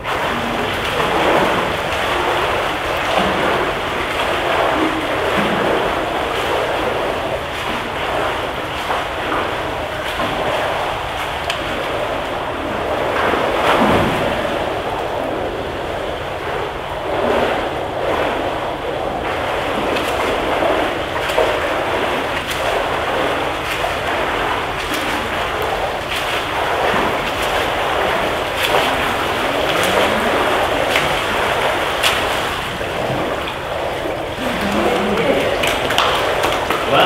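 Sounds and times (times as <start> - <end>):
pool water splashing: 0.0 - 37.0.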